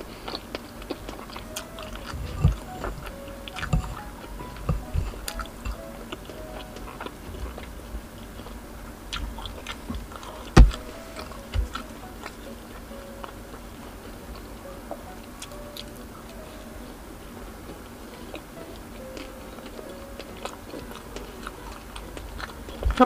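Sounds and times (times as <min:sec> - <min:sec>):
chewing: 0:00.0 - 0:23.0
faint background music: 0:00.0 - 0:23.0.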